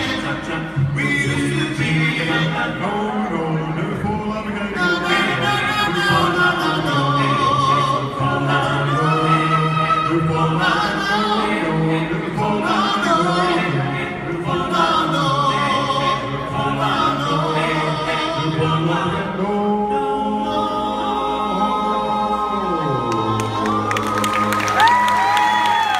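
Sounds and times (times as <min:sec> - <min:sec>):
vocal group singing harmony: 0:00.0 - 0:25.9.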